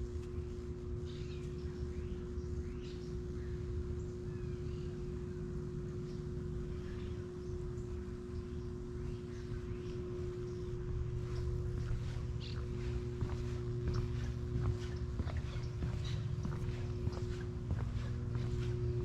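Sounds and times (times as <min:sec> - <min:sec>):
low hum and rumble: 0:00.0 - 0:19.0
small birds chirping: 0:00.1 - 0:19.0.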